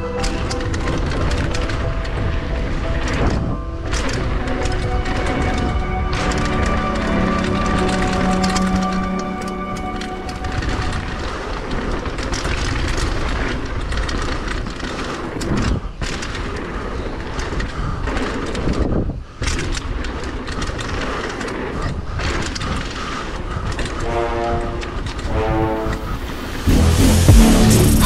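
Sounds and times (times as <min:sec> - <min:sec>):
riding fast over snow: 0:00.0 - 0:28.0
rushing wind: 0:00.0 - 0:28.0.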